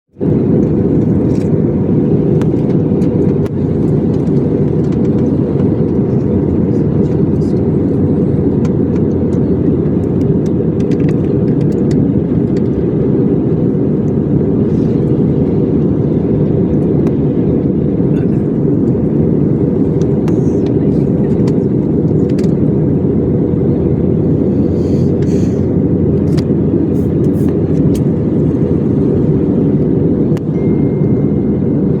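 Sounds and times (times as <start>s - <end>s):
car road and wind noise: 0.1s - 32.0s.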